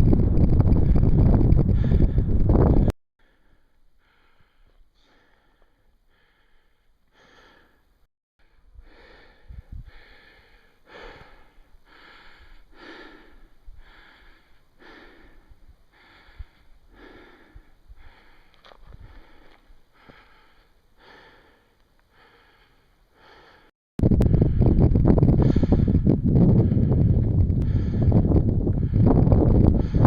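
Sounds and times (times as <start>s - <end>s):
person breathing hard: 1.7s - 30.0s.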